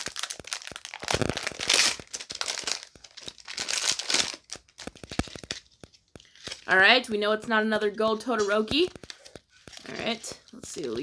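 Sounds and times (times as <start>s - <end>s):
foil packet crinkling: 0.0s - 7.0s, 8.2s - 11.0s.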